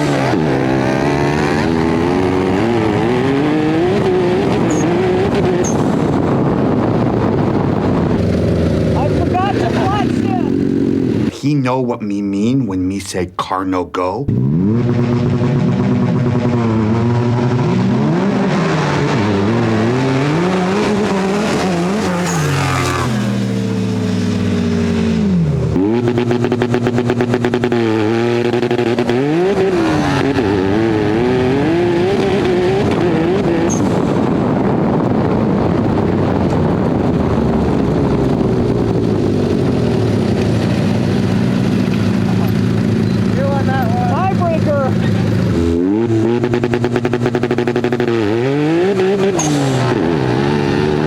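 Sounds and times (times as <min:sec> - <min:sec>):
buggy engine revving: 0:00.0 - 0:11.5, 0:13.4 - 0:51.0.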